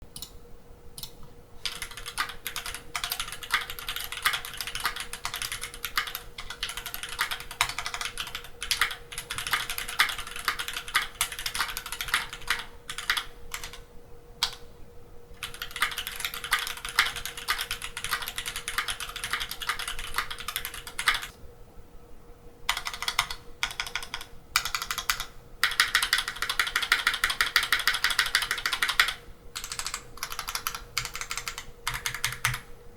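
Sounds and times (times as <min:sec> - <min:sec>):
faint steady hum: 0:00.0 - 0:32.9
typing on mechanical keyboard: 0:01.6 - 0:13.8, 0:14.4 - 0:14.6, 0:15.4 - 0:21.3, 0:22.7 - 0:32.7.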